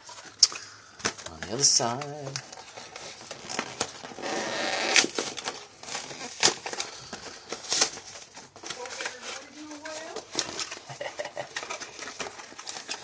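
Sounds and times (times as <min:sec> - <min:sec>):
plastic crackles and snaps: 0:00.0 - 0:13.0
plastic packaging tearing: 0:00.1 - 0:13.0.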